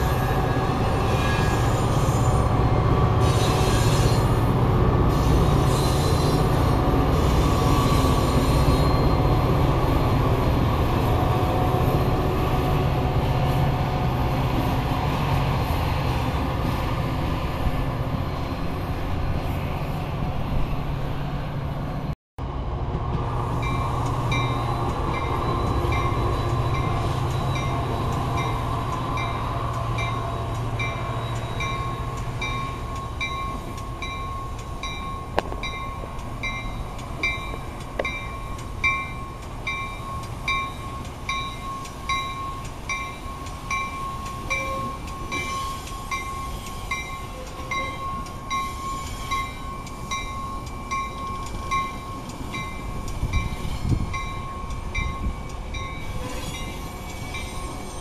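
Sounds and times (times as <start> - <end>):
train coaches rolling on rails: 0.0 - 58.0.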